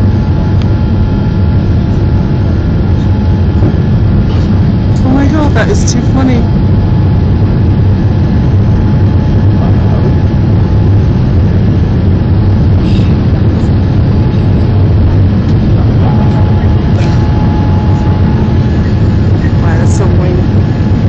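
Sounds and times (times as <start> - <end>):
faint steady whine: 0.0 - 21.0
jet engine rumble: 0.0 - 21.0.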